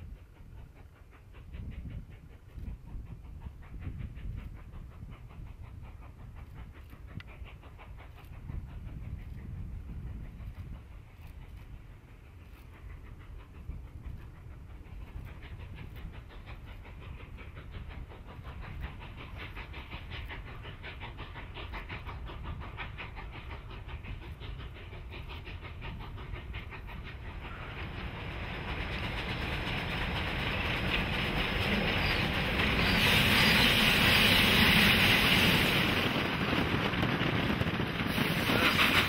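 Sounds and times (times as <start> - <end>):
steam locomotive exhaust beats: 0.0 - 39.0.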